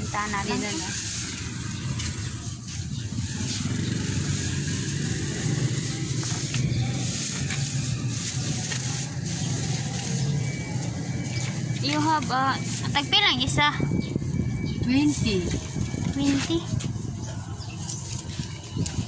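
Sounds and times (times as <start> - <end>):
street noise: 0.0 - 19.0
vehicle engine rumbling: 0.0 - 19.0.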